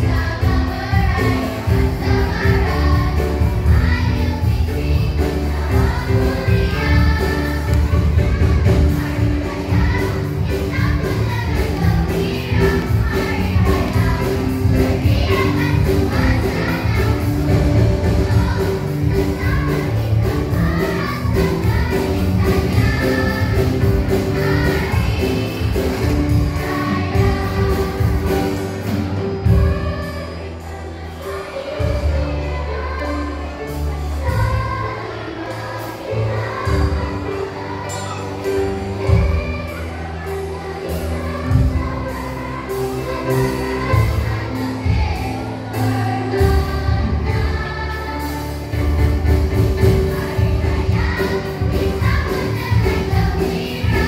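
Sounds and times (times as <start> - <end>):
children's choir singing: 0.0 - 54.0
instrumental accompaniment with beat: 0.0 - 54.0.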